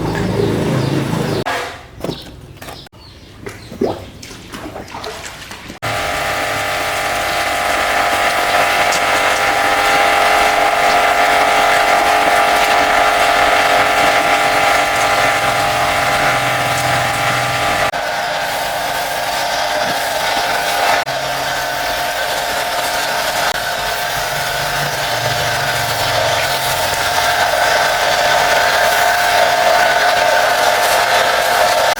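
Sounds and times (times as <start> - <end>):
pressure washer pump whine: 0.0 - 1.5, 5.8 - 31.9
water jet hissing: 5.8 - 31.9.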